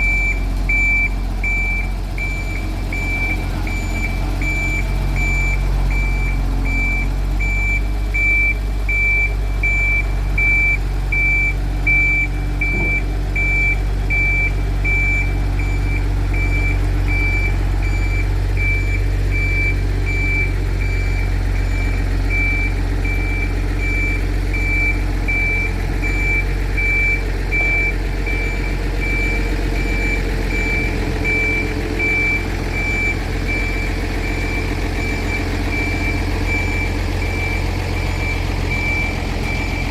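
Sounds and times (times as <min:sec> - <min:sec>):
reversing warning beeper: 0:00.0 - 0:39.9
vehicle rumble: 0:00.0 - 0:39.9.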